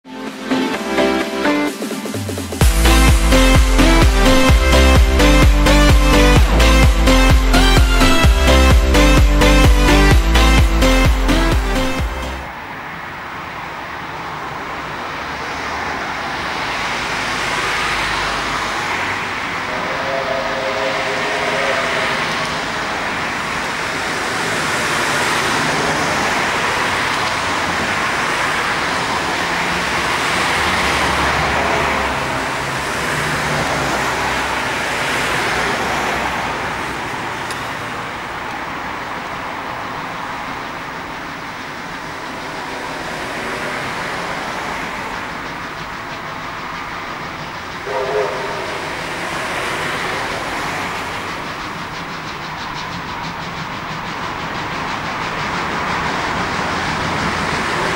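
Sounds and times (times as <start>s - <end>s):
road traffic passing: 0.0s - 57.9s
train rumble: 1.7s - 57.9s.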